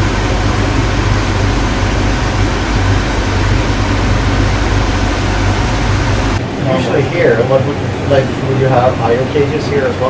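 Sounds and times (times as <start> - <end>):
cooling fans rushing: 0.0 - 10.0.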